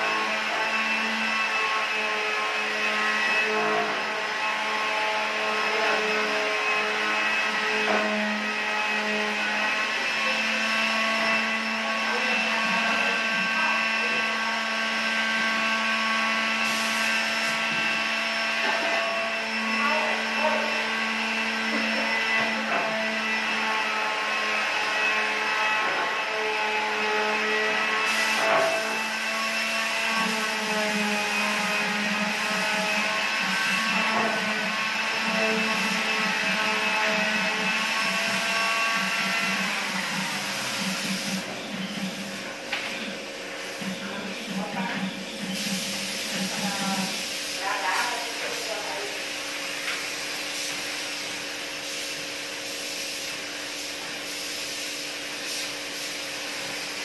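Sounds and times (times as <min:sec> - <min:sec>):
air compressor running: 0:00.0 - 0:57.0.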